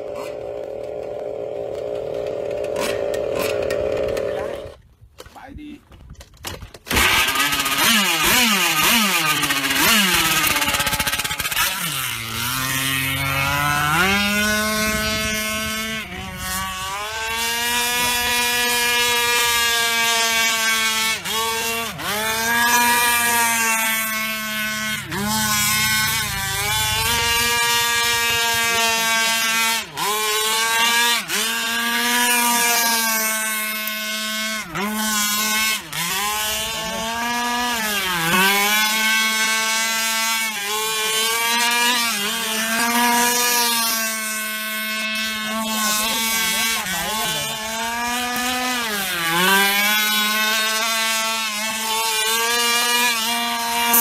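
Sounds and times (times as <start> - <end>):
two-stroke boat engine revving: 0.0 - 4.8, 6.8 - 54.0.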